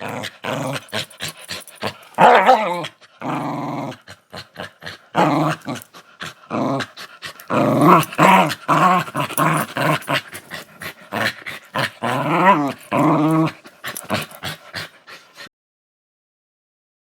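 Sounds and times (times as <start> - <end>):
small dog growling: 0.0 - 15.5.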